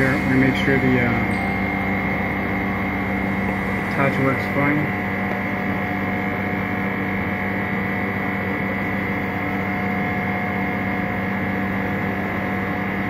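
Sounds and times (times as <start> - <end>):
refrigeration compressor humming: 0.0 - 13.0.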